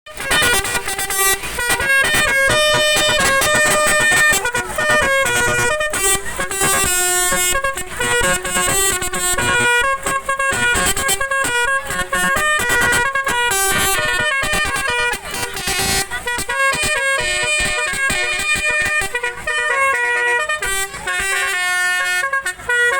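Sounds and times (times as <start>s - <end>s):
musical horn playing a tune: 0.1s - 22.9s.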